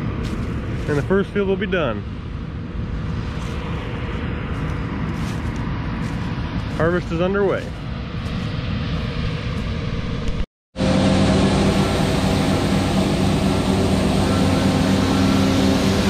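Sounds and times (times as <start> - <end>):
combine engine running: 0.0 - 16.0
even rushing noise: 0.0 - 16.0.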